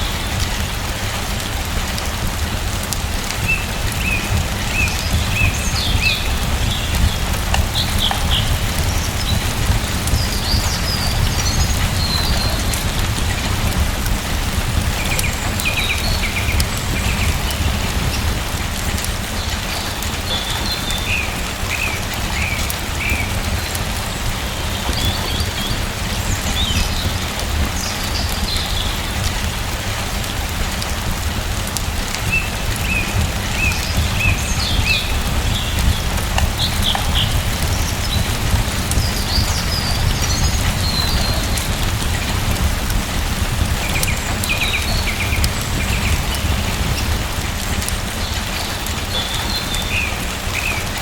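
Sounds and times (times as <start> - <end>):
small birds chirping: 0.0 - 51.0
steady rain: 0.0 - 51.0.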